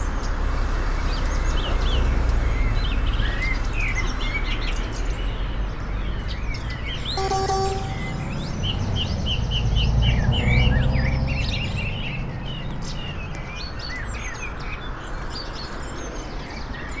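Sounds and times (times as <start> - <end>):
bus engine running: 0.0 - 14.4.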